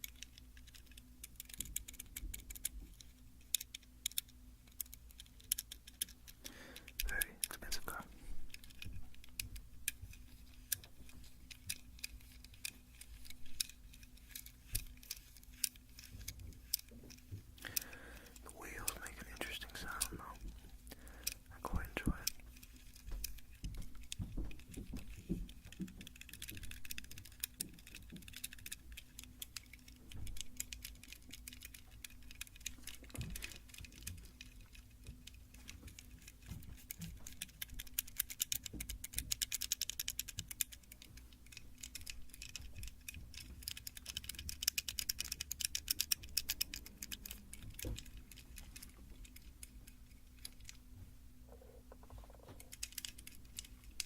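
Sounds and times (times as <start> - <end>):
light clicking and tapping: 0.0 - 54.0.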